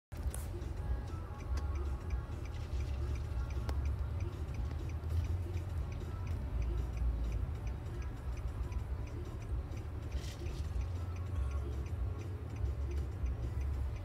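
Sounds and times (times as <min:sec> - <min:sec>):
quick ticking: 0:00.2 - 0:14.0.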